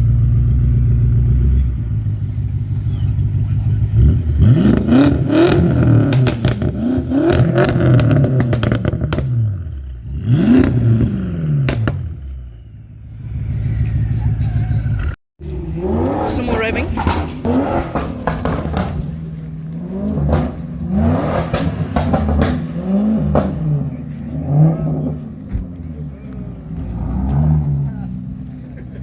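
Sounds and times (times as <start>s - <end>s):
car engine idling and revving: 0.0s - 29.0s
exhaust popping and crackling: 0.0s - 29.0s.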